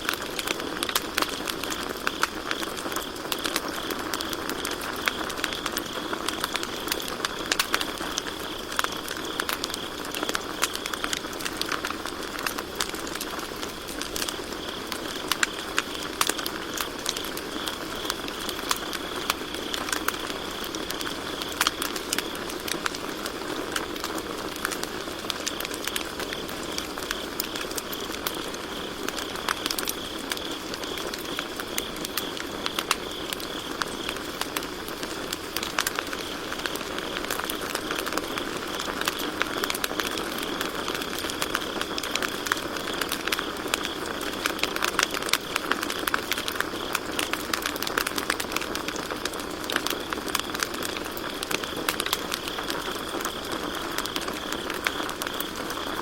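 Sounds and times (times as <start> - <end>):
campfire crackling and popping: 0.0 - 56.0
crickets trilling: 0.0 - 56.0.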